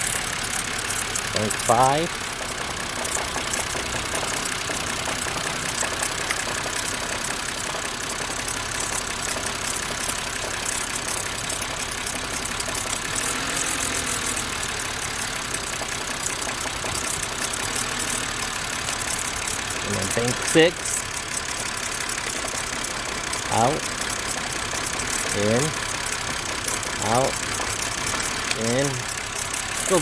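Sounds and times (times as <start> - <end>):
car engine idling roughly: 0.0 - 30.0.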